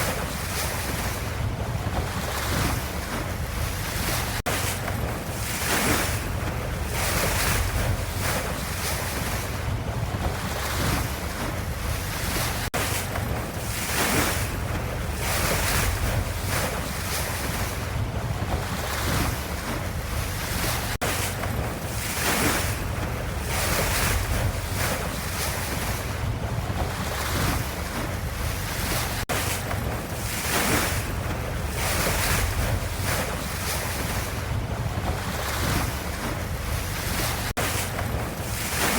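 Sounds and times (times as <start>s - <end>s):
ocean waves washing: 0.0s - 38.9s.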